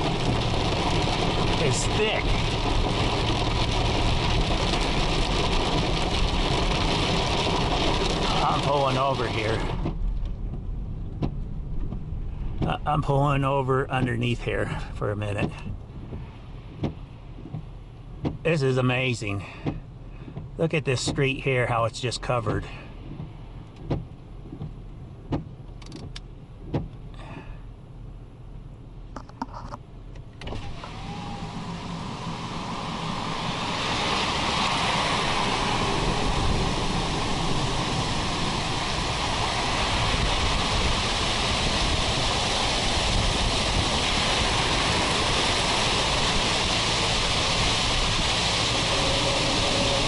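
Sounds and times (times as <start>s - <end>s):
heavy rain on vehicle: 0.0s - 50.0s.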